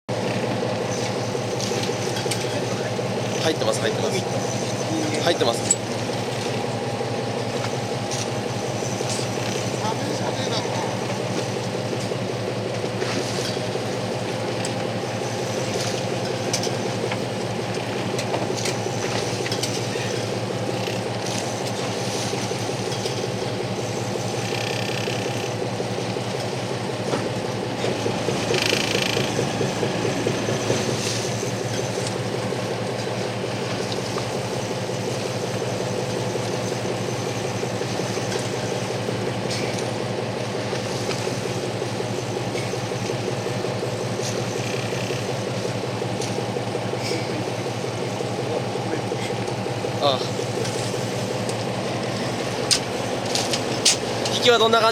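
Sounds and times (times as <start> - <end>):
boat engine droning: 0.1 - 54.9.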